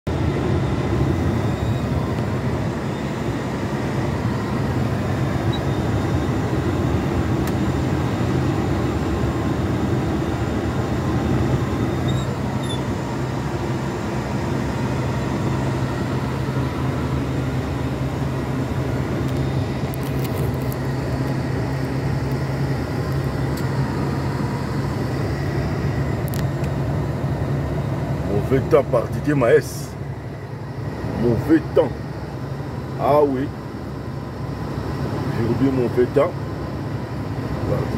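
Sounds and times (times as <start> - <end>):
engine drone and road noise: 0.0 - 37.9.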